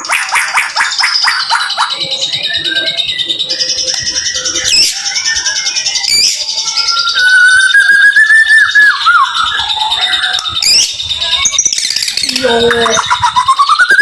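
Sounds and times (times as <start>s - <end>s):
long rising bird whistle: 0.0s - 12.3s, 13.2s - 14.0s
bird singing twitters and whistles: 0.0s - 14.0s.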